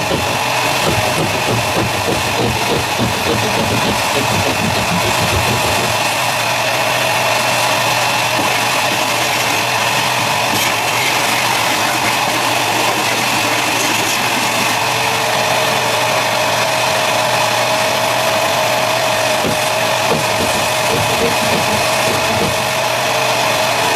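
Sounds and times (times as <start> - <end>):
vacuum cleaner motor running: 0.0 - 23.9.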